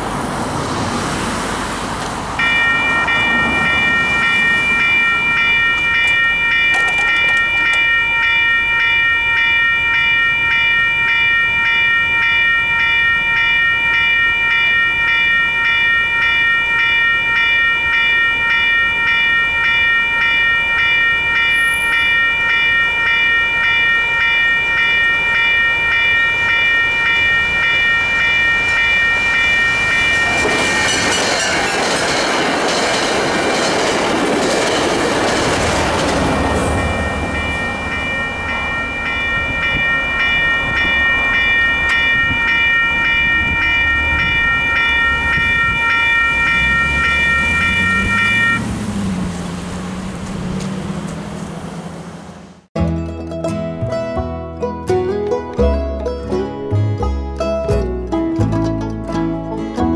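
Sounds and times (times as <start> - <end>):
commuter train passing: 0.0 - 52.7
railroad crossing bell ringing: 2.4 - 52.6.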